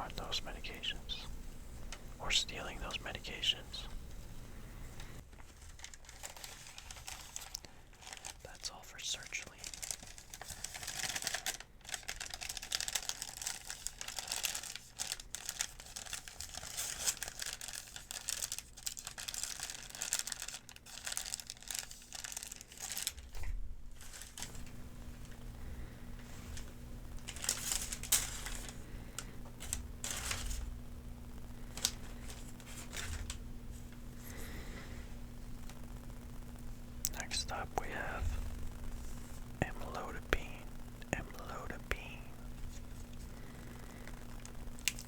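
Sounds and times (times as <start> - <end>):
paper crinkling: 0.0 - 30.8, 31.5 - 45.0.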